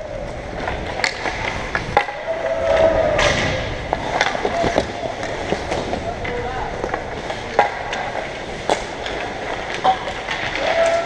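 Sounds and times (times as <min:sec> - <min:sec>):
hockey sticks and puck clacking: 0:00.0 - 0:11.0
skate blades scraping on ice: 0:00.1 - 0:11.0.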